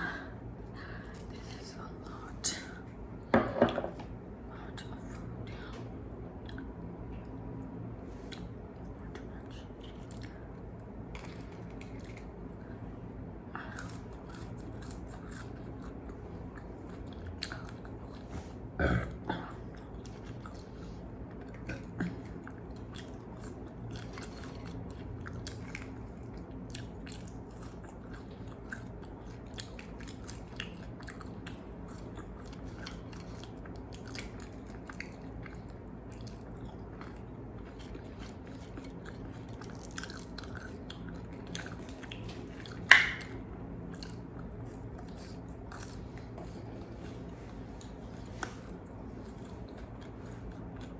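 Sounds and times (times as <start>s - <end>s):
chewing crispy chicken: 8.2s - 18.6s, 19.5s - 50.9s.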